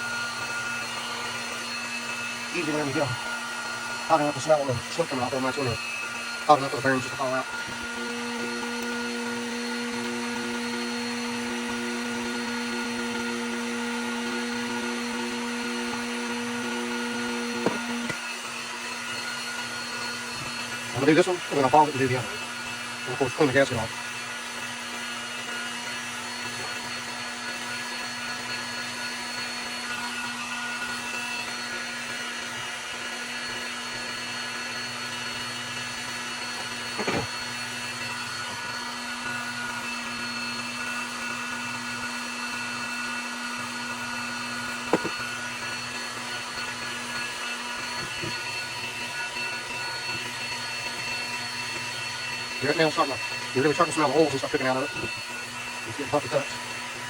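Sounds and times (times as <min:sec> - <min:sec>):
heat gun whirring: 0:00.0 - 0:57.0.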